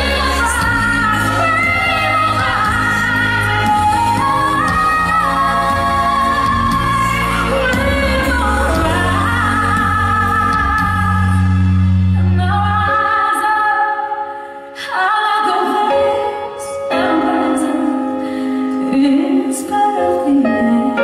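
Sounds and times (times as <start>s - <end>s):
woman singing a slow ballad: 0.0s - 21.0s.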